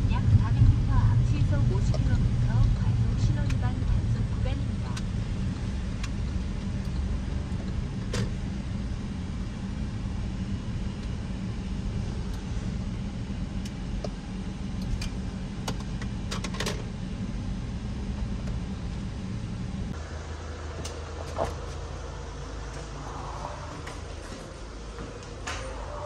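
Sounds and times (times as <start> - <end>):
engine and road rumble: 0.0 - 26.0
quiet hum: 0.0 - 26.0.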